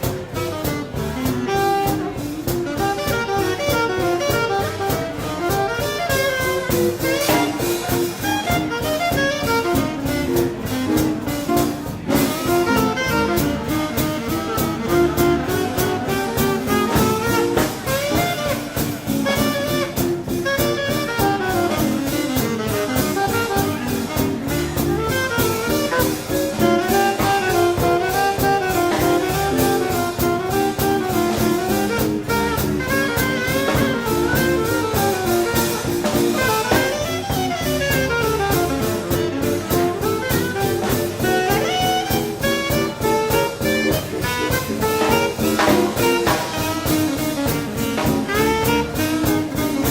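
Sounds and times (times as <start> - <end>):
saxophone-led horn line: 0.0 - 49.9
swing combo playing: 0.0 - 49.9.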